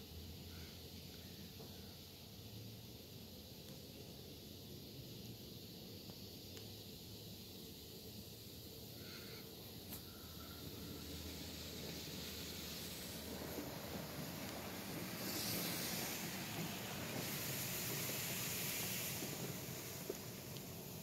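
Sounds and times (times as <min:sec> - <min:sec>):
car wash spray hissing: 0:02.1 - 0:21.0.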